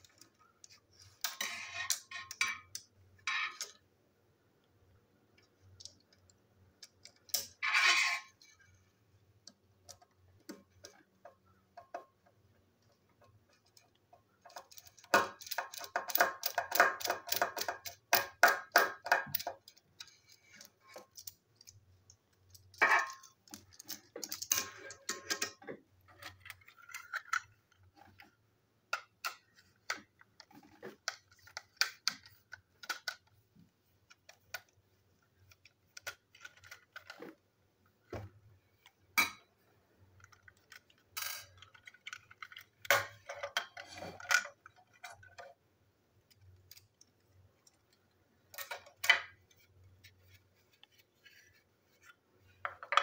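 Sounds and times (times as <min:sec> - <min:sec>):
plastic toy parts clicking and rattling: 0:00.0 - 0:03.8, 0:05.4 - 0:33.4, 0:34.0 - 0:37.4, 0:40.2 - 0:45.6, 0:46.2 - 0:53.0.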